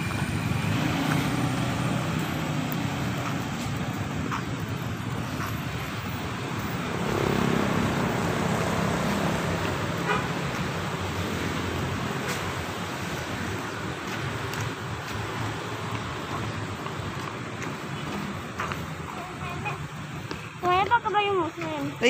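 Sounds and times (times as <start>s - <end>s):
scooter engine rumble: 0.0s - 22.0s
traffic noise: 0.0s - 22.0s.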